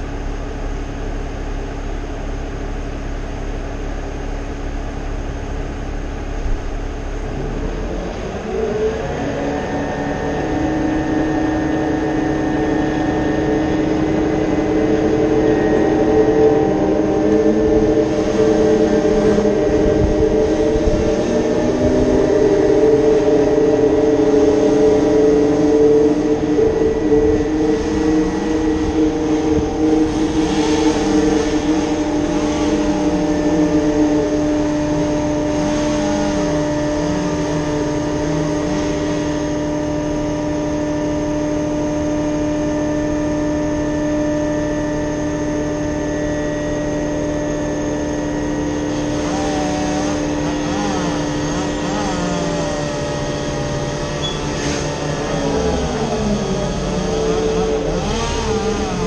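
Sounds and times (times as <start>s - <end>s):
machinery engine running: 0.0s - 59.0s.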